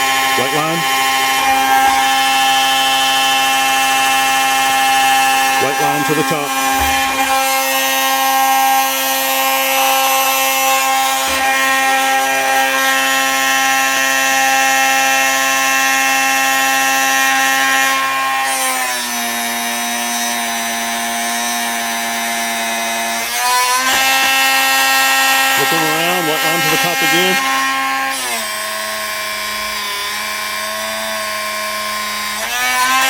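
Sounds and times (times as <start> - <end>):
drill bit sharpener whining: 0.0 - 33.0.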